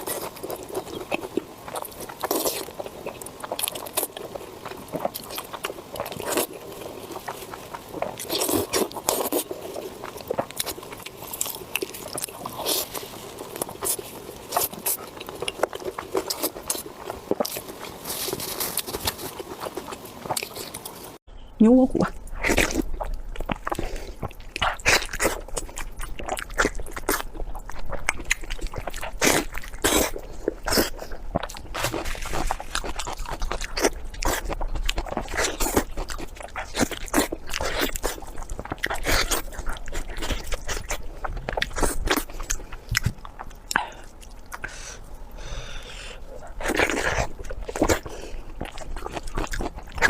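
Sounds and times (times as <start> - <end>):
crunchy chewing: 0.0 - 21.2, 22.0 - 50.0.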